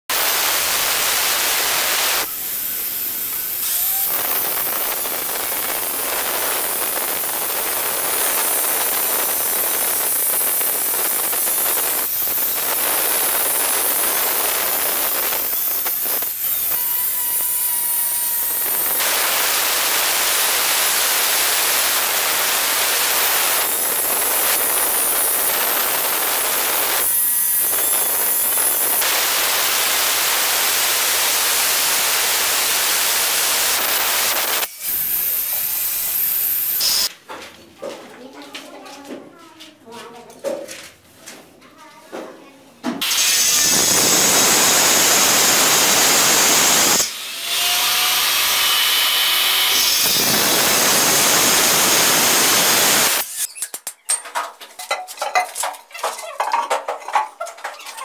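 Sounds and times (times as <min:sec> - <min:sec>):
cutter whine: 0:00.1 - 0:37.1, 0:43.0 - 0:53.5
stone cutter grinding: 0:00.1 - 0:37.1, 0:43.0 - 0:53.7.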